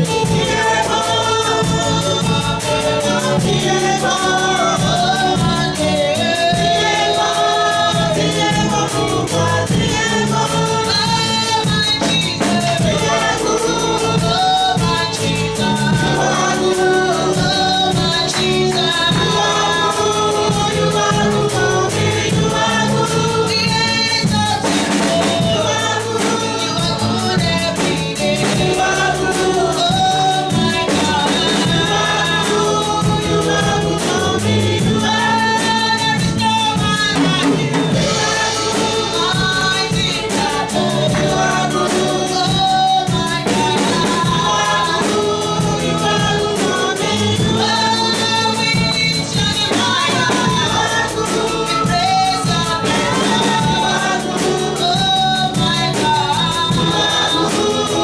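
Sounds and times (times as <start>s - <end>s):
band accompaniment: 0.0s - 58.0s
gospel choir singing: 0.0s - 58.0s
steady drum beat: 0.0s - 58.0s.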